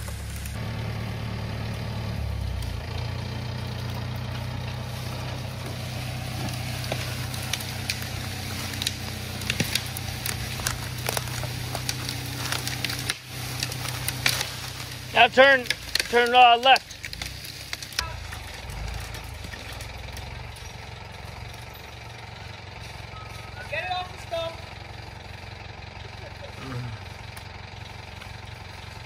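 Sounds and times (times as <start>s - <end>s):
leaves crackling underfoot: 0.0s - 25.4s, 26.2s - 29.0s
engine idling: 0.0s - 29.0s.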